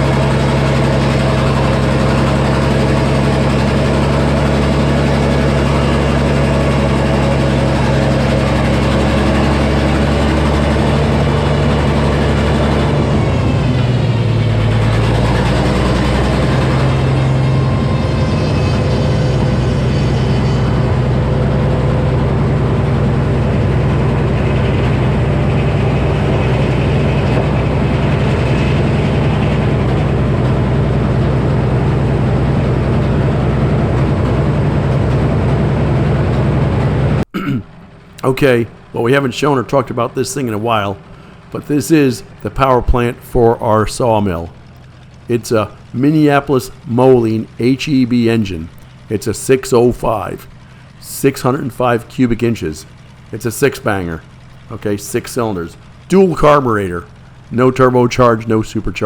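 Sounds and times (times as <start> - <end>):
engine running at low speed: 0.0 - 59.0
high whine: 0.0 - 59.0.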